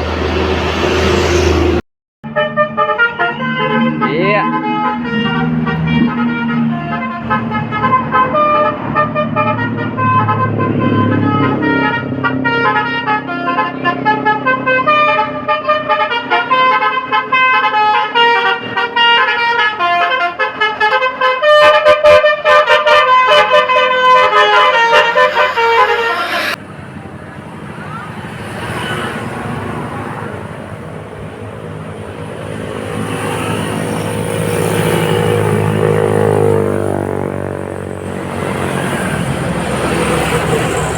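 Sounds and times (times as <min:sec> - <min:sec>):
road noise: 0:00.0 - 0:40.9
vehicle engine: 0:00.0 - 0:40.9
multi-tone bus horn toots: 0:00.1 - 0:26.6, 0:31.1 - 0:40.9.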